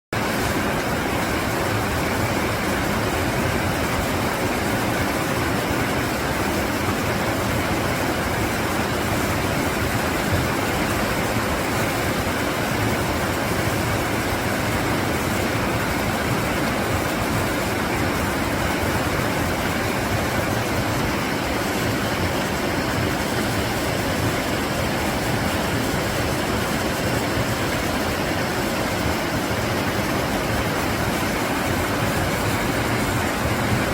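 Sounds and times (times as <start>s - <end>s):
stream flowing: 0.2s - 33.9s.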